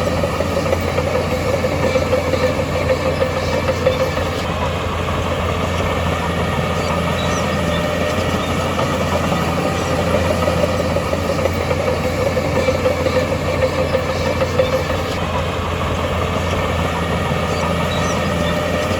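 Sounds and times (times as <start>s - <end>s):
constant engine whine: 0.0s - 18.9s
diesel engine droning: 0.0s - 18.9s.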